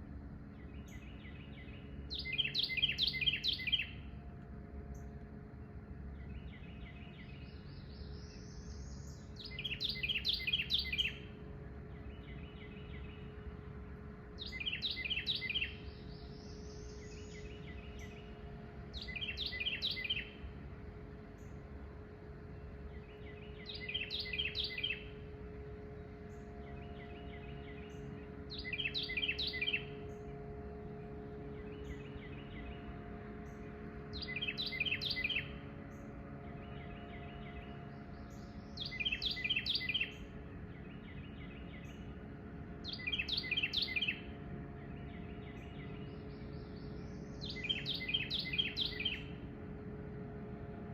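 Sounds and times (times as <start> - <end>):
low engine hum: 0.0 - 50.9
songbird singing: 0.0 - 50.9.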